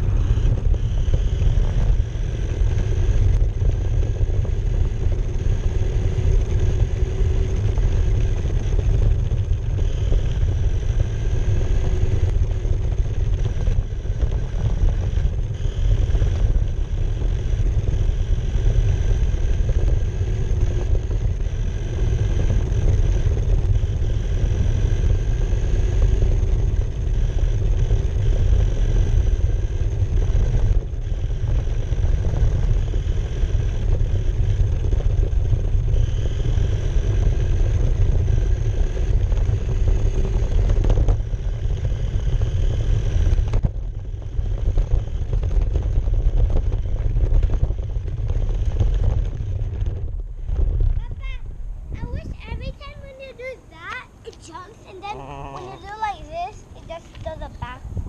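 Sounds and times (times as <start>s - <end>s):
motor and gears whine: 0.0s - 58.0s
rc car tyres rumbling: 0.0s - 58.0s.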